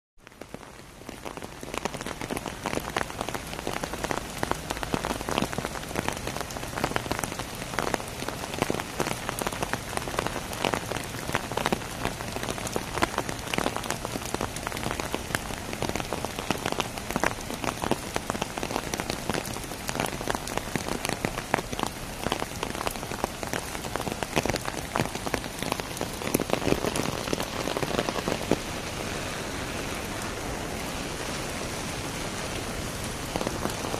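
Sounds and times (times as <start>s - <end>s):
rain hissing on road: 0.2s - 33.9s
rain pattering on umbrella: 0.2s - 33.9s.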